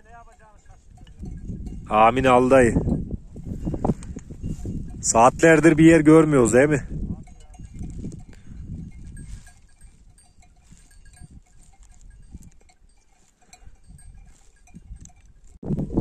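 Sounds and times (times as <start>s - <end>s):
sheep bells clinking: 0.0s - 15.6s.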